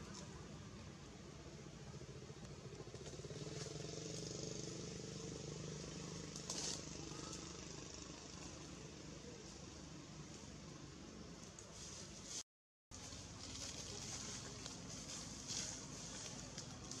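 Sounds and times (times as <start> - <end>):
motorbike passing by: 0.0 - 11.3, 13.0 - 17.0.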